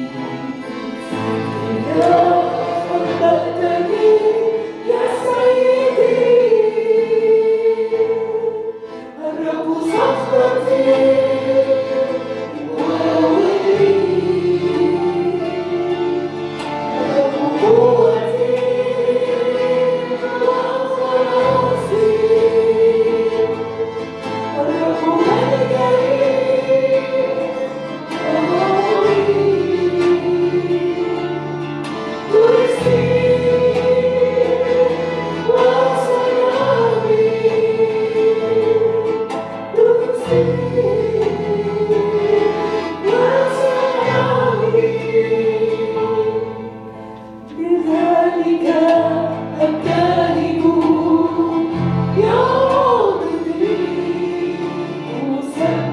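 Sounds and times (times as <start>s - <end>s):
group singing worship song: 0.0s - 55.9s
instrumental accompaniment: 0.0s - 55.9s.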